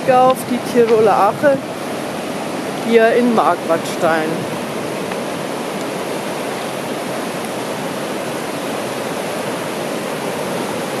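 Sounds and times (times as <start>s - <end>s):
river rushing over gravel rapids: 0.0s - 11.0s.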